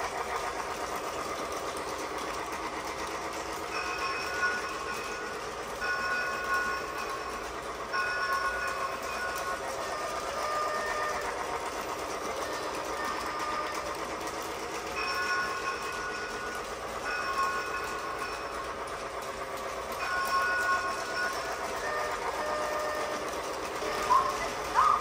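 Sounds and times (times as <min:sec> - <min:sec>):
toy train whirring clatter: 0:00.0 - 0:25.0.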